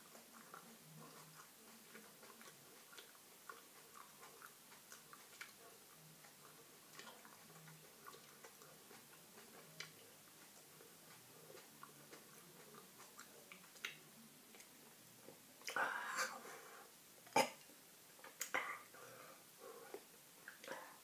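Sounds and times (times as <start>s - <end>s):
soft chewing: 0.0s - 21.0s.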